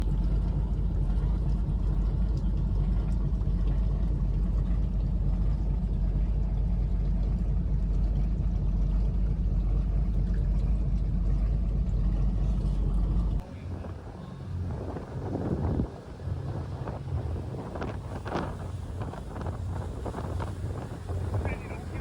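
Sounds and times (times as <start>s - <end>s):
boat engine rumbling: 0.0s - 22.0s.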